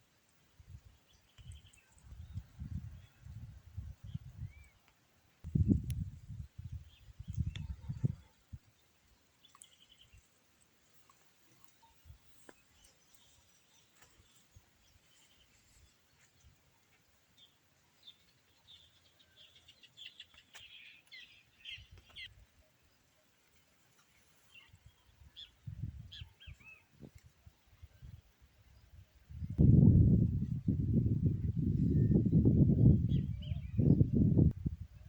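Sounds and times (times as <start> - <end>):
faint bird chirping: 0.0 - 35.0.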